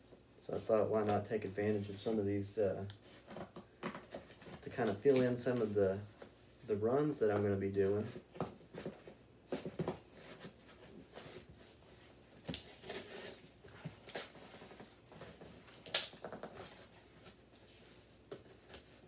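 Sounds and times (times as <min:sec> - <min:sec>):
soft rustling: 0:00.0 - 0:19.0.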